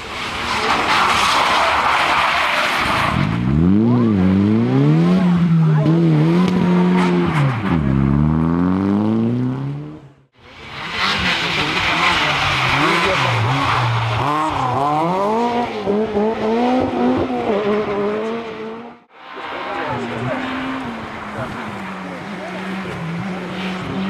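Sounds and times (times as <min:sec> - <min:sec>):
rally car engine: 0:00.0 - 0:24.0.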